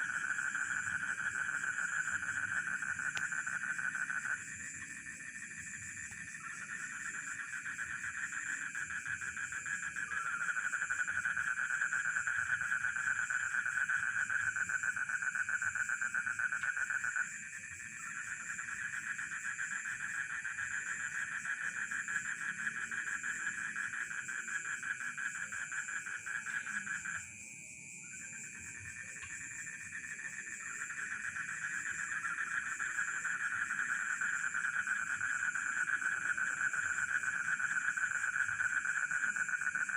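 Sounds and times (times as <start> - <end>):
frogs and crickets chorus: 0.0 - 39.9
high insect trill: 0.0 - 39.9.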